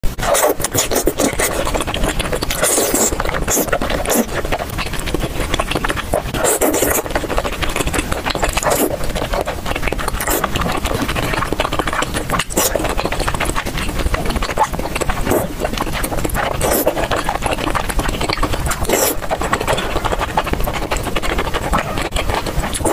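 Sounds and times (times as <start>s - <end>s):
chewing and slurping: 0.0s - 22.9s.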